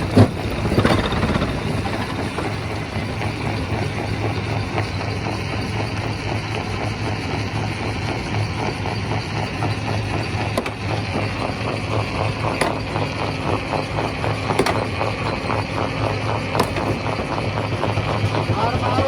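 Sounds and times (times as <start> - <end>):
rock crusher churning: 0.0 - 19.0.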